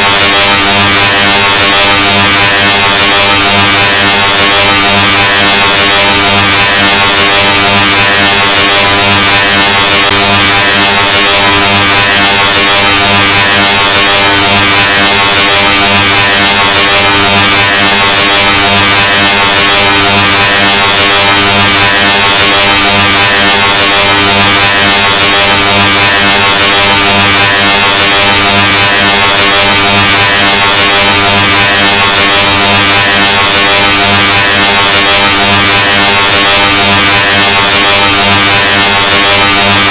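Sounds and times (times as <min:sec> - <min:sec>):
distorted buzzing tone: 0:00.0 - 0:39.9.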